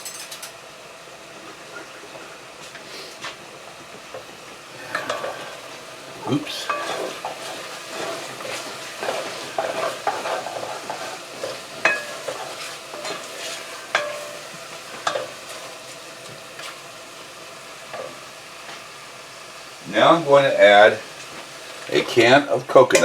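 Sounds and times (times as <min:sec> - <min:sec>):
chicken frying in oil: 0:00.6 - 0:23.0.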